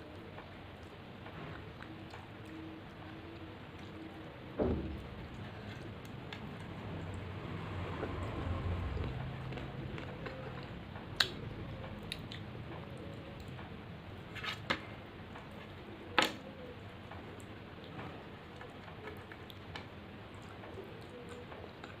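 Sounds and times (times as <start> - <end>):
close chewing food: 0.1 - 13.7, 17.1 - 22.0.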